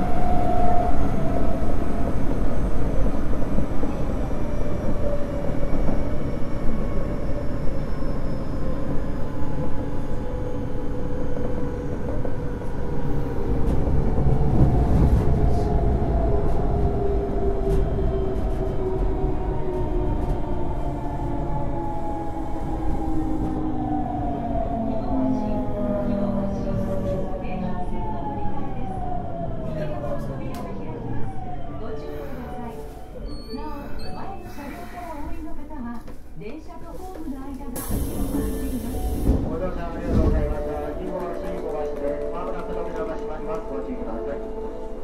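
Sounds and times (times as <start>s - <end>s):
subway wheels and tunnel rumble: 0.0s - 45.0s.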